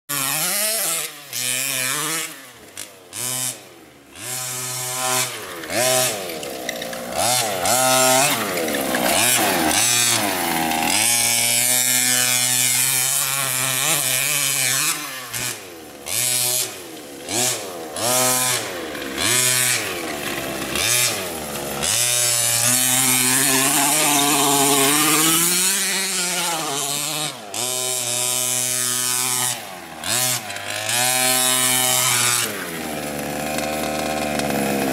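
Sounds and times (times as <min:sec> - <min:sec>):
small two-stroke engine revving: 0:00.1 - 0:34.9.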